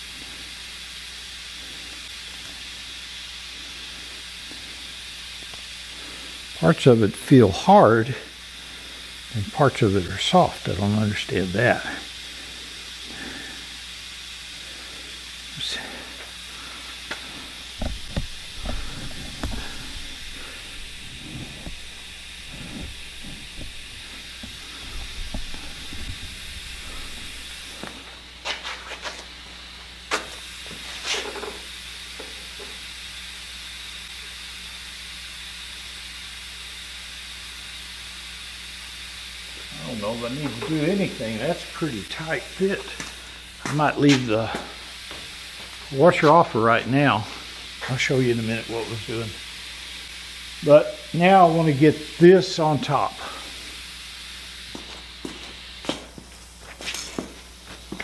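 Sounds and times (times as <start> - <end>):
faint hum: 0.0 - 58.0
room tone hiss: 0.0 - 58.0.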